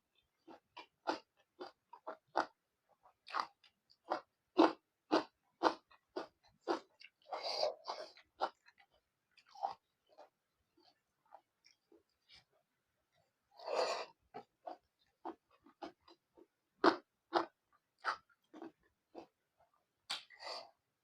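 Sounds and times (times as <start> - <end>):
close chewing with wet mouth clicks: 0.2 - 19.4.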